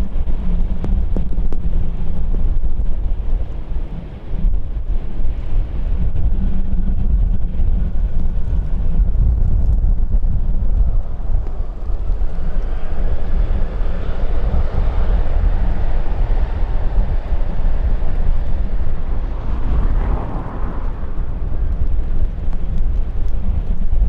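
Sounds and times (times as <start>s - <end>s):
jet airliner engines passing: 0.0s - 24.0s
wind buffeting on microphone: 0.0s - 24.0s.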